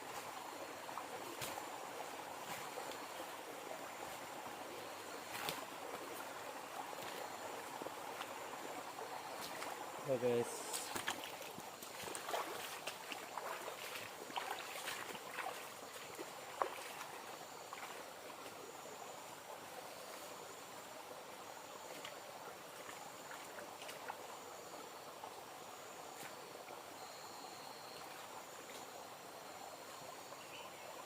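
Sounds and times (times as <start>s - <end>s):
river water trickling: 0.0s - 31.0s.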